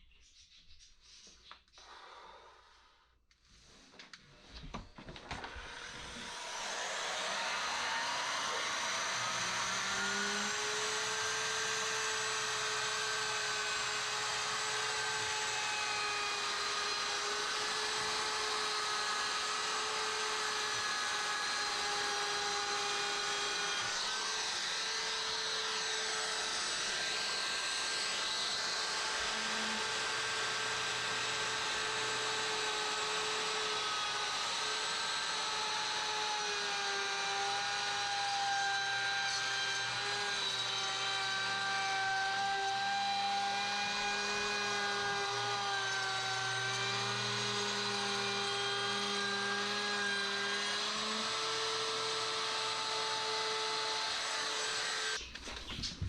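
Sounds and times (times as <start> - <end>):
electric wood router whining: 5.3 - 55.4.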